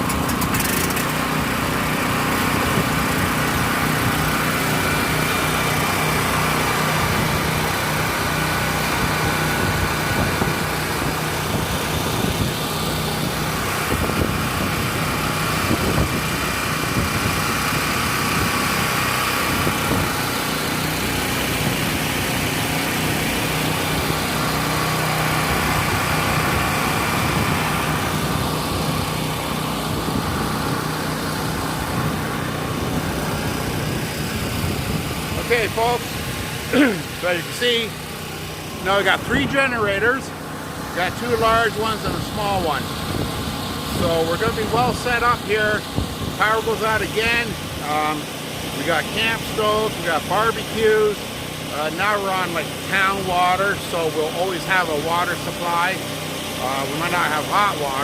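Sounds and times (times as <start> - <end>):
generator engine humming: 0.0 - 58.0.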